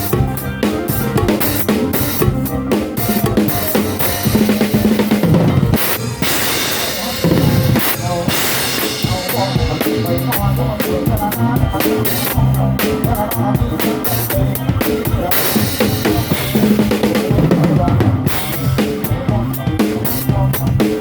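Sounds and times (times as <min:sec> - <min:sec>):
pitched instruments: 0:00.0 - 0:20.9
drum kit beat: 0:00.0 - 0:21.0.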